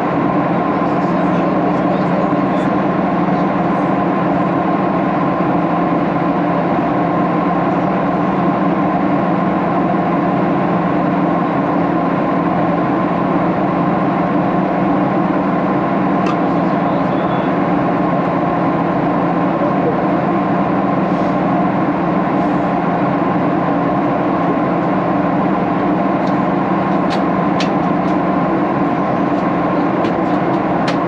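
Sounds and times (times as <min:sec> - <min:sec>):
airplane cabin drone: 0:00.0 - 0:31.0.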